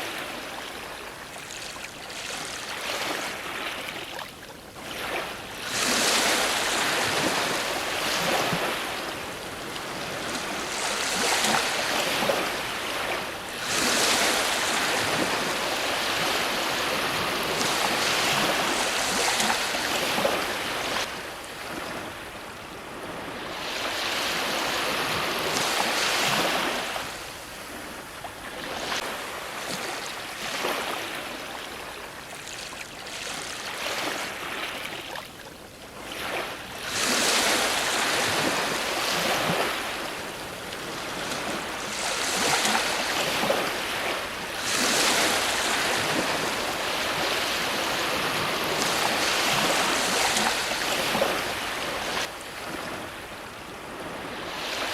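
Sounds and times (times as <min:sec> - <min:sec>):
ocean waves breaking: 0:00.0 - 0:35.2, 0:35.9 - 0:54.9.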